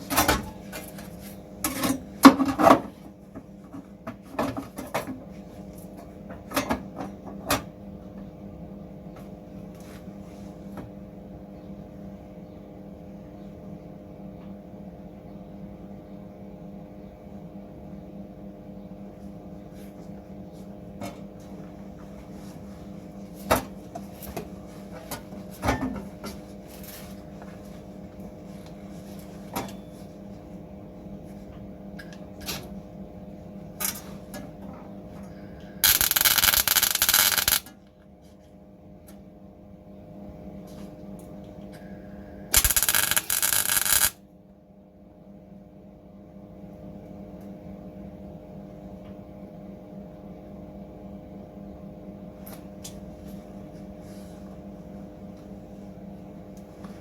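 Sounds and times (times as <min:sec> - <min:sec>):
mechanical hum: 0:00.0 - 0:57.0.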